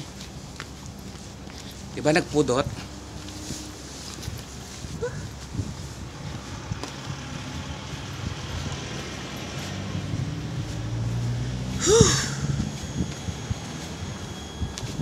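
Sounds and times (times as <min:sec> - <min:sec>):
road noise: 0:00.0 - 0:15.0
vehicle engine hum: 0:00.0 - 0:15.0.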